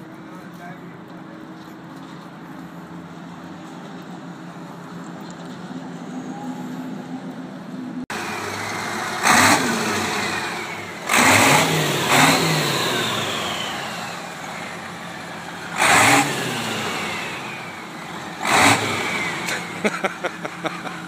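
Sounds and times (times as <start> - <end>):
diesel engine idling and revving: 0.0 - 21.0.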